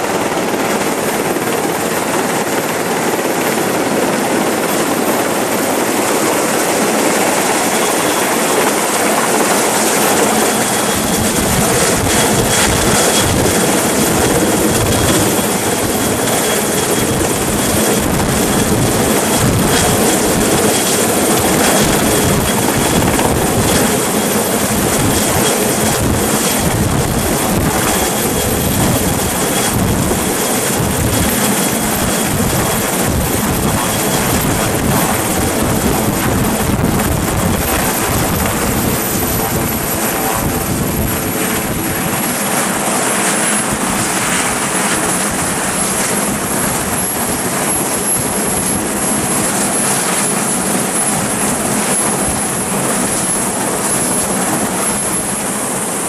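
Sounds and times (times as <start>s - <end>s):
helicopter rotor and engines: 0.0s - 56.0s.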